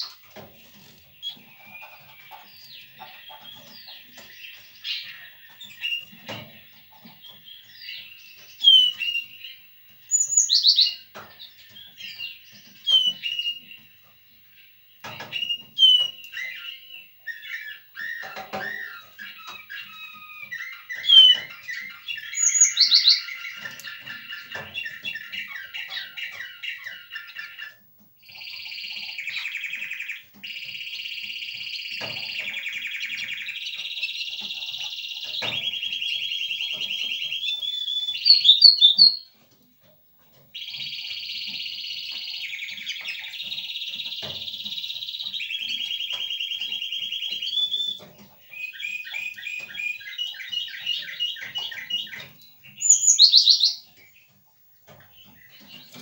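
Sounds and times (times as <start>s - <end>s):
finch singing: 0.0s - 56.0s.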